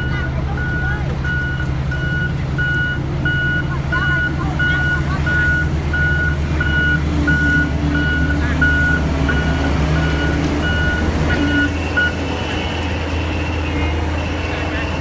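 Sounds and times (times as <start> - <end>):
diesel engine running: 0.0 - 15.0
reversing alarm beeping: 0.0 - 15.0.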